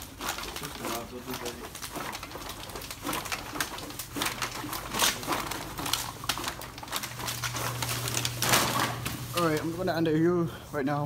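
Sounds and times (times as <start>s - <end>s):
bottles and cans rattling in bag: 0.0s - 10.0s.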